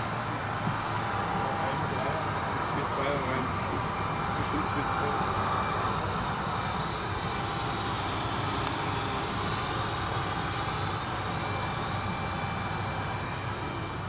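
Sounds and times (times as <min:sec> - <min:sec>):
ventilation system drone: 0:00.0 - 0:14.0.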